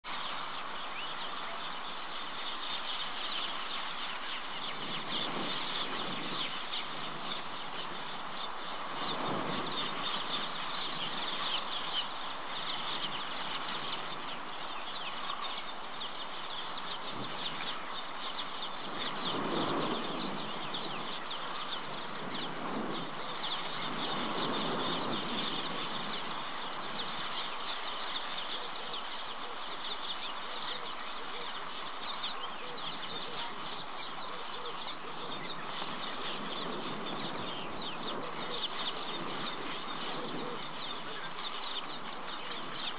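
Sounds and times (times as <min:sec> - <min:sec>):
small birds chirping chorus: 0:00.0 - 0:42.9.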